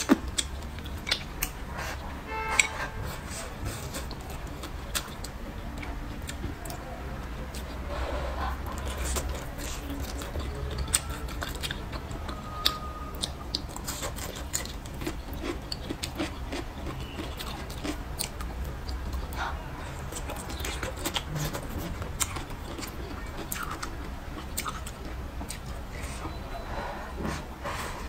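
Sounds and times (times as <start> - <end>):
person chewing with smacks: 0.0 - 26.4.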